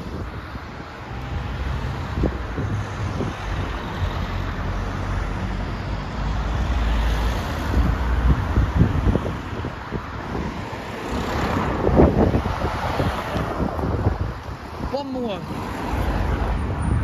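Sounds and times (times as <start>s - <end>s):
rumble of car engines and tyres: 0.0s - 17.0s.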